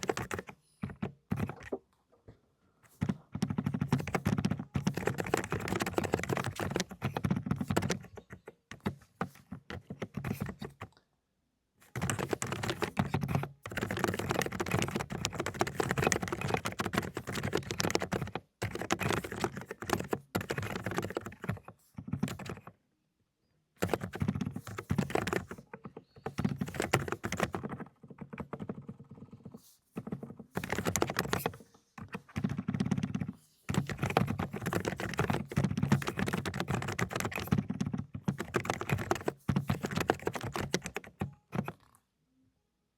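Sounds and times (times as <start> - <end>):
fast mechanical keyboard typing: 0.0 - 1.8, 2.9 - 10.9, 11.9 - 22.8, 23.8 - 41.9.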